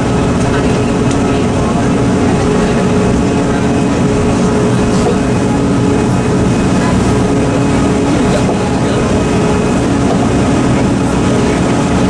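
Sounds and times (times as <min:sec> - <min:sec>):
train running from inside car: 0:00.0 - 0:12.0.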